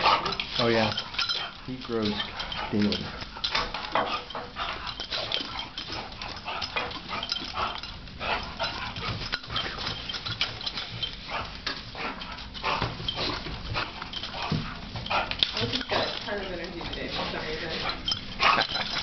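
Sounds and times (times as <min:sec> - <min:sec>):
dogs play-wrestling: 0:00.0 - 0:19.0.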